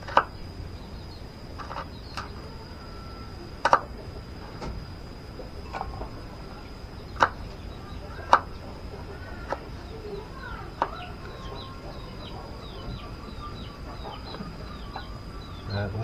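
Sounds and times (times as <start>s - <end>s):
chickens clucking: 0.0s - 16.0s
small bird chirping: 0.0s - 16.0s.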